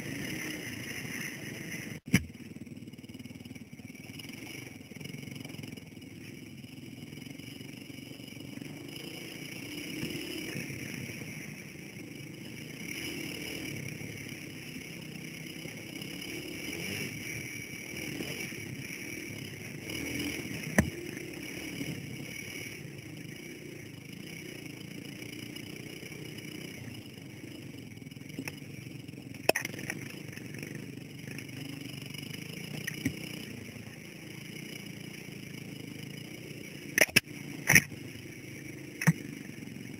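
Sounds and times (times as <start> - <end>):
dirt bike engine revving: 0.0 - 2.5, 3.2 - 39.9.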